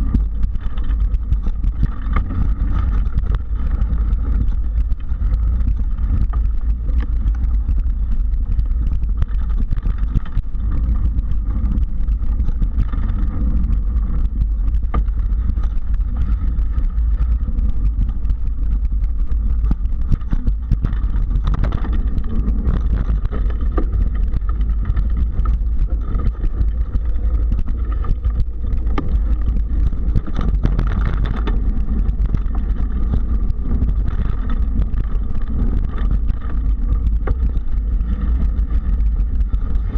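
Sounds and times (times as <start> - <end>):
bike clicks and rattles: 0.0 - 39.9
bike tyre noise: 0.0 - 39.9
wind rumble on microphone: 0.0 - 39.9.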